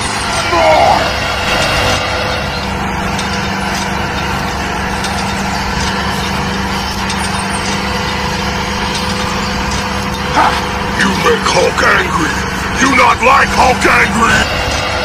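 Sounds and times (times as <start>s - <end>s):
mini tractor engine droning: 0.0s - 15.0s.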